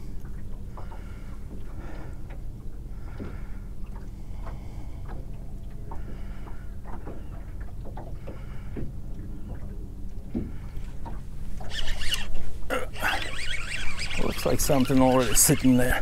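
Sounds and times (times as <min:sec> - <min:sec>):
steady low hum: 0:00.0 - 0:16.0
waves lapping against boat hull: 0:00.0 - 0:16.0.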